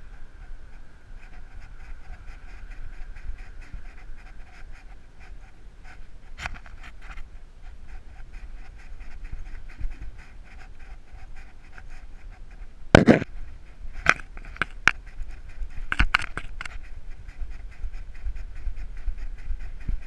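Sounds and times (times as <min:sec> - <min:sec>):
dog panting: 0:01.2 - 0:12.7, 0:14.0 - 0:20.0.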